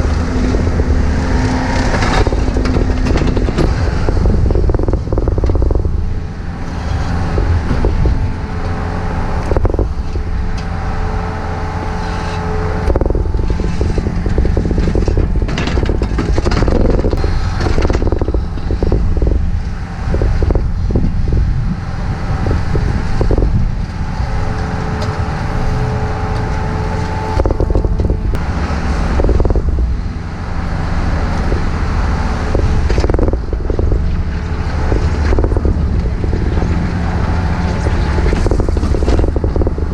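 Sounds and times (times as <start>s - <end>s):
knocks and scrapes: 0.0s - 30.6s, 31.2s - 39.9s
diesel engine running: 0.0s - 39.9s
hydraulic whine: 0.0s - 39.9s.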